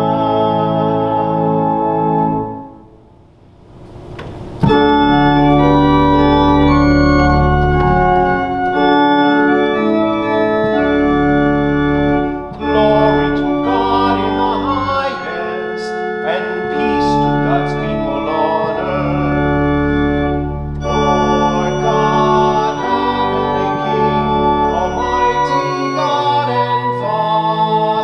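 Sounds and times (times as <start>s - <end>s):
organ playing held chords: 0.0s - 28.0s.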